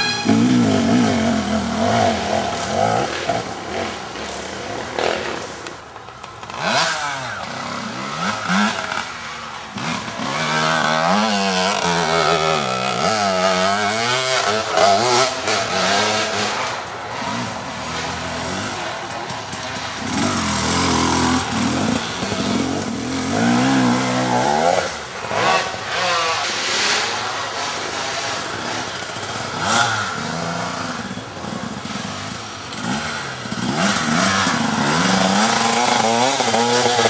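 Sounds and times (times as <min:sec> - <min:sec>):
motorcycle approaching: 0:00.0 - 0:37.0
motorcycle engine revving: 0:00.0 - 0:37.0.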